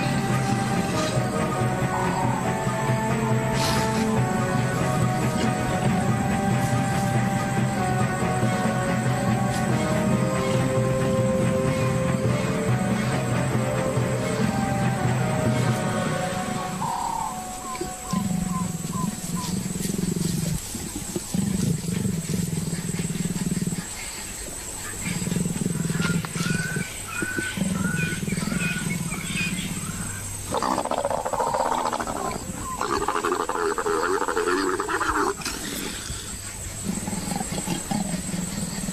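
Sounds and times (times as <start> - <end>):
leopards growling: 0.0 - 38.9
leopards snarling: 0.0 - 38.9.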